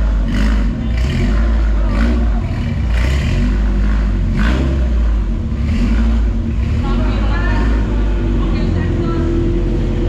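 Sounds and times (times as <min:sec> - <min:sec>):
car engine and exhaust rumbling: 0:00.0 - 0:10.0.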